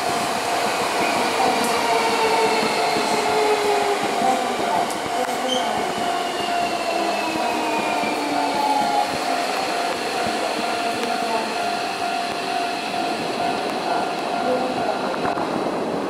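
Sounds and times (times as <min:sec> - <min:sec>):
steady high tone: 0:00.0 - 0:15.4
train wheels rumbling on rails: 0:00.0 - 0:16.0.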